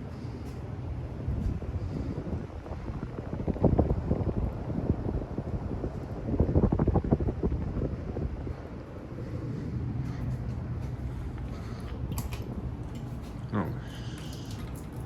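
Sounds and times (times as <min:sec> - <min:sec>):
air buffeting microphone: 0:00.0 - 0:15.0
ceiling fan humming: 0:00.0 - 0:15.0.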